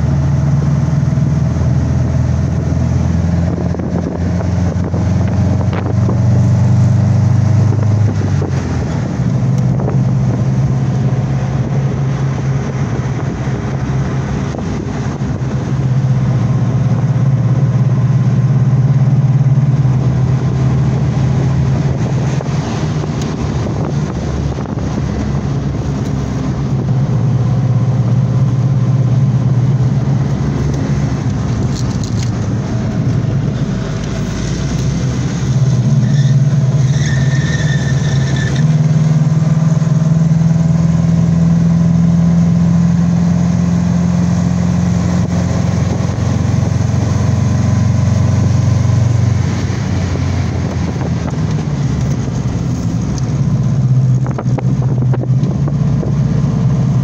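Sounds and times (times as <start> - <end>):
car engine running: 0.0 - 57.0
road and wind noise: 0.0 - 57.0.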